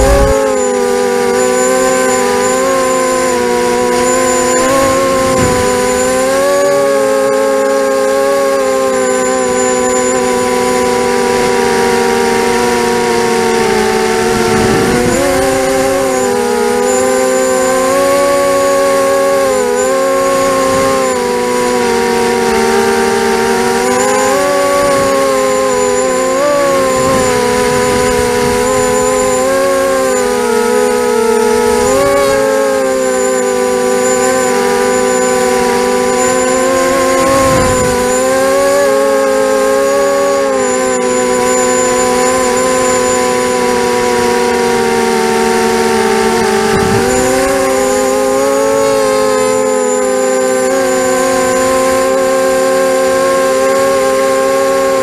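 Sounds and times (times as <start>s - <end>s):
drone motors whining: 0.0s - 55.0s.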